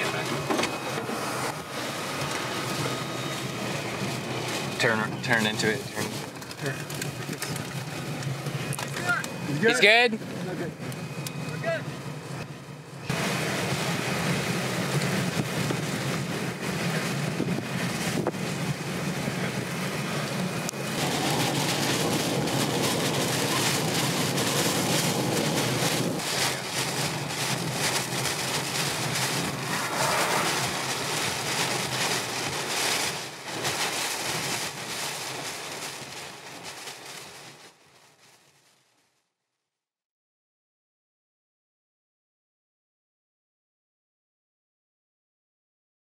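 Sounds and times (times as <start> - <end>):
hurricane wind: 0.0 - 37.8
heavy rain lashing a vehicle: 0.0 - 38.8
road and engine noise: 0.0 - 38.9.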